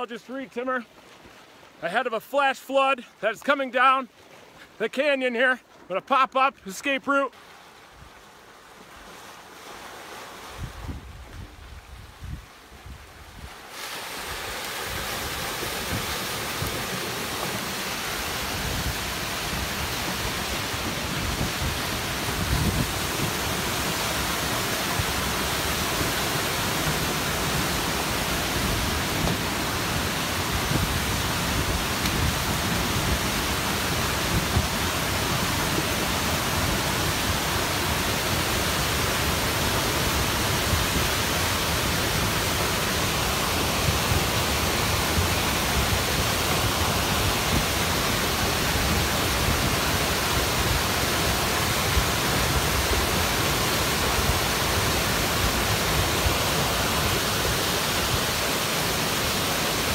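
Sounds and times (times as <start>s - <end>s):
flash flood water rushing: 6.8s - 59.9s.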